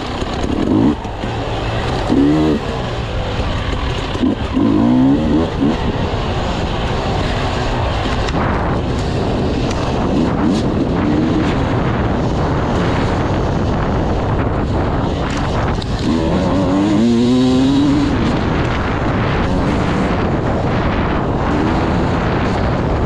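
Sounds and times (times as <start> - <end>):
motorcycle engine revving: 0.0 - 23.0
road and wind noise: 0.0 - 23.0.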